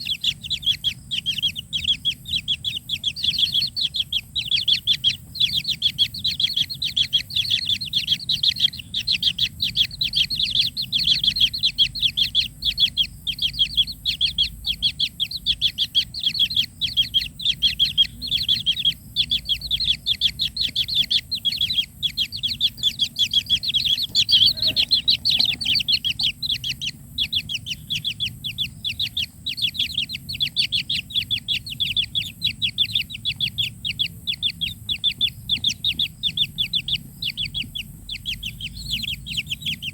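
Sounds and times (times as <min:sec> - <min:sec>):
nestlings begging calls: 0:00.0 - 0:39.9.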